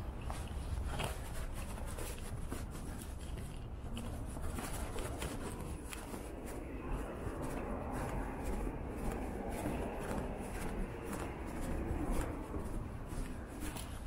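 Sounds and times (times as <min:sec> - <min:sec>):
faint clicks and scuffs: 0:00.0 - 0:14.0
low steady rumble: 0:00.0 - 0:14.0.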